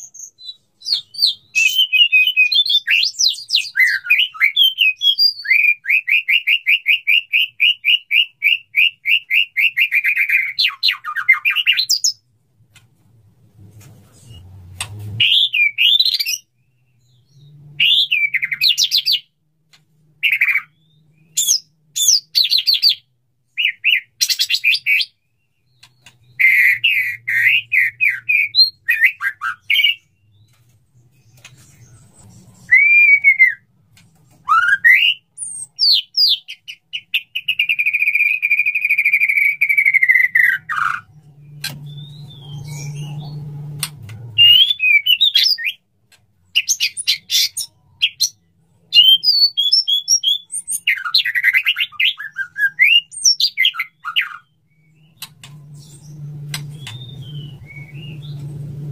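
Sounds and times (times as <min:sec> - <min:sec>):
songbird singing whistles: 0:00.0 - 0:12.2, 0:15.2 - 0:19.4, 0:20.2 - 0:33.7, 0:34.4 - 0:45.8, 0:46.6 - 0:58.9.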